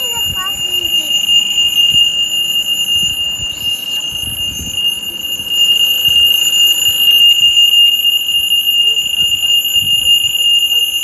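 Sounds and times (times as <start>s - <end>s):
high-pitched electronic alarm tone: 0.0s - 11.0s.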